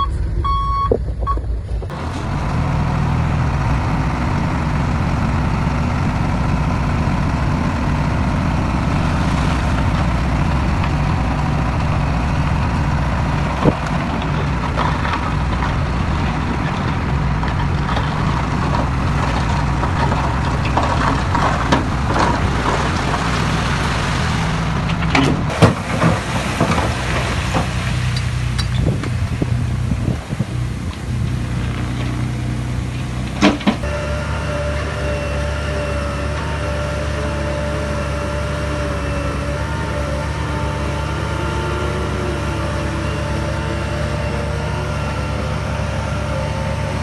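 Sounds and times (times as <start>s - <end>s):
diesel machinery running: 0.0s - 47.0s.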